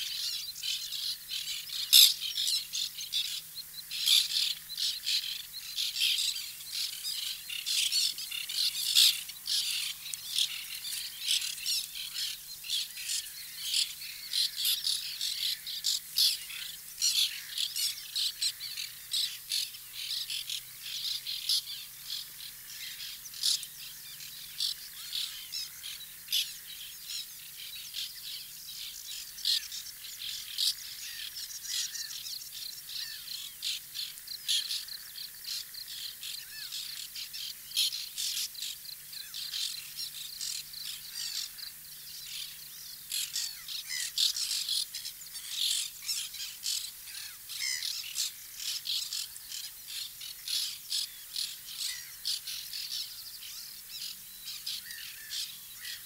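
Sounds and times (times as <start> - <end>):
terns giving alarm calls: 0.0 - 56.0.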